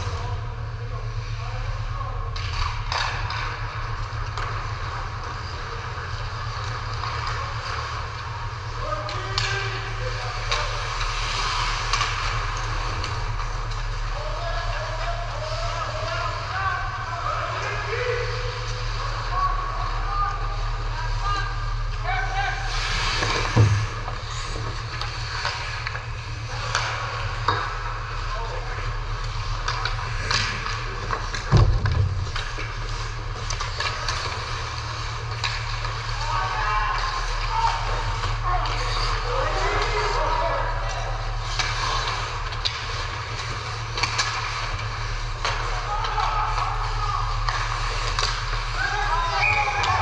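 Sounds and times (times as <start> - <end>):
low hum: 0.0 - 50.0
skates scraping ice: 0.1 - 50.0
hockey sticks and puck clacking: 2.3 - 16.5, 22.7 - 50.0.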